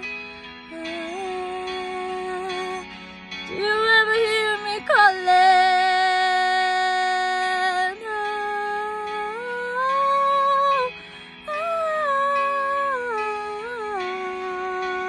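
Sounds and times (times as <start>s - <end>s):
woman singing wordless notes: 0.0s - 2.9s, 3.5s - 15.0s.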